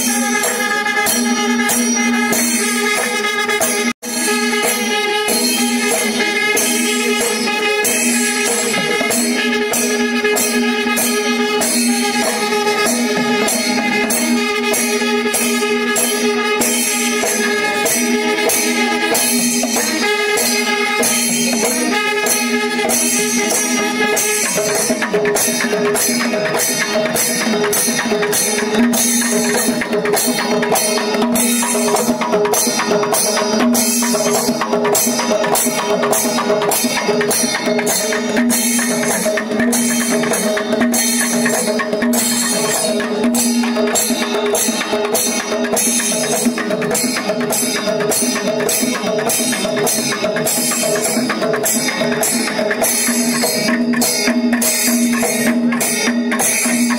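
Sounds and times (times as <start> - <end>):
held wind instrument tone: 0.0 - 46.4
drums in fast rhythm: 0.0 - 56.9
hand cymbals clashing: 0.0 - 56.9.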